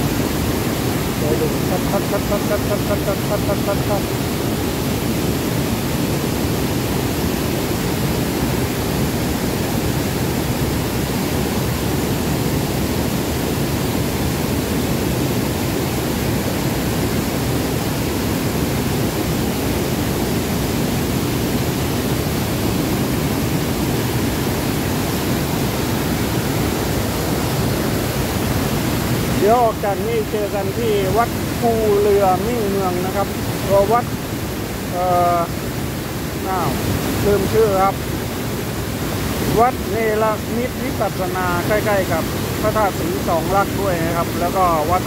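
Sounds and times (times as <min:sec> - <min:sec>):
stream rushing over rocks: 0:00.0 - 0:45.0.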